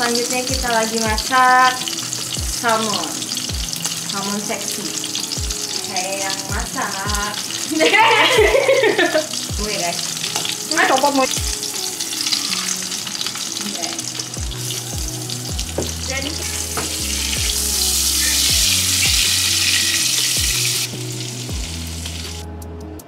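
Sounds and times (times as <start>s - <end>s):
background music with a beat: 0.0s - 4.2s, 4.8s - 13.3s, 14.0s - 23.0s
fish sizzling in a pan: 0.0s - 22.5s.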